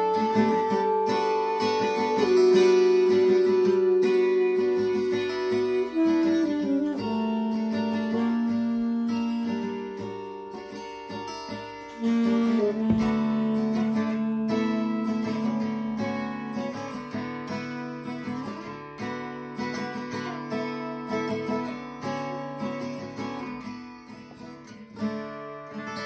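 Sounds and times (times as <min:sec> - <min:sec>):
acoustic guitar strumming: 0:00.0 - 0:26.0
held guitar melody note: 0:00.0 - 0:26.0.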